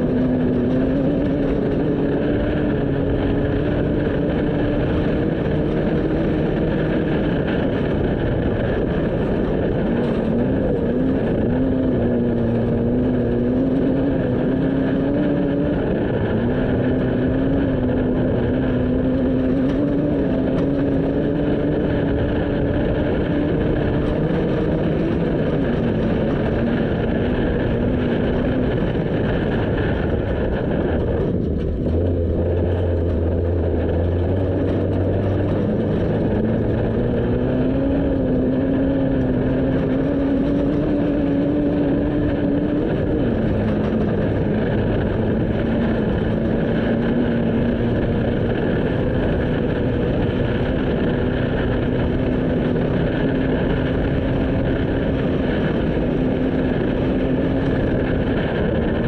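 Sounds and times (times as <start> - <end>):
rough rush of driving noise: 0.0 - 59.0
vehicle engine running: 0.0 - 59.0.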